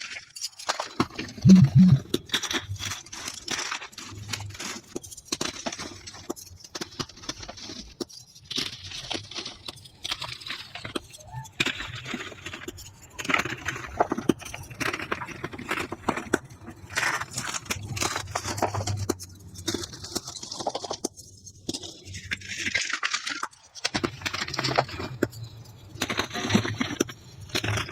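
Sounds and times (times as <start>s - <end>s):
chalk crunching and crackling: 0.0s - 27.9s.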